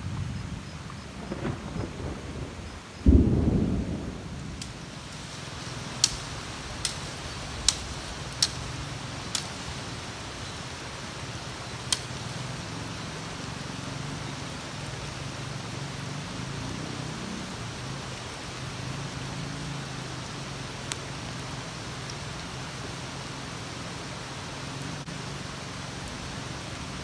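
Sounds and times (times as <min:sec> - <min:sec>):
rain hiss: 0:00.0 - 0:27.0.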